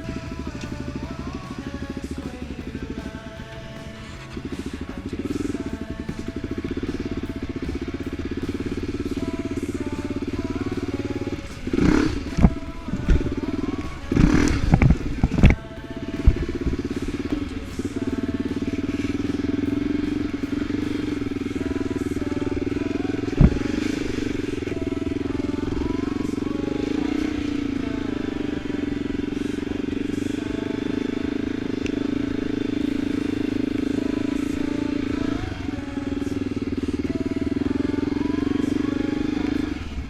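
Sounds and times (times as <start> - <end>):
off-road vehicle engine running: 0.0 - 40.0.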